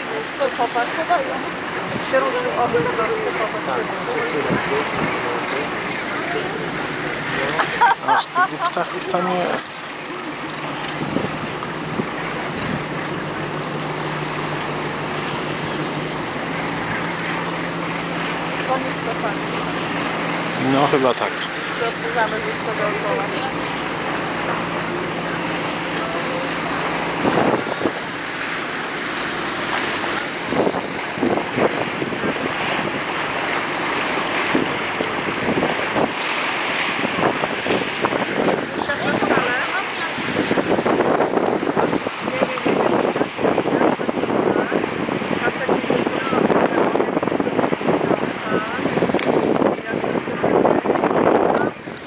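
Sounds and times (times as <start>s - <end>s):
boat engine humming: 0.0s - 52.0s
wind and water rushing: 0.0s - 52.0s.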